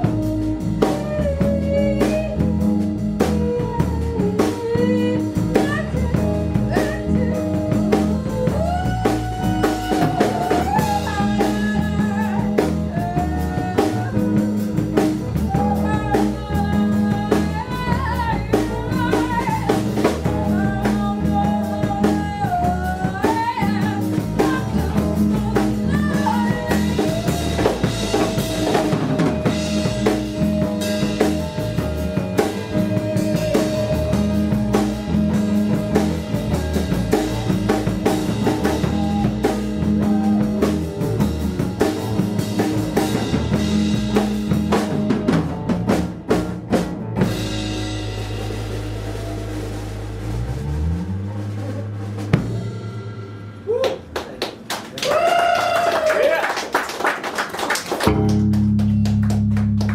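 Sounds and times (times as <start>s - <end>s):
live band playing: 0.0s - 55.4s, 57.6s - 59.9s.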